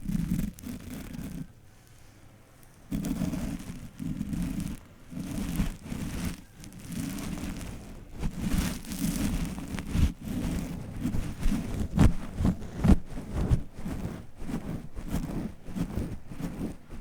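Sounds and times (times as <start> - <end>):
brushing strokes: 0.0 - 17.0.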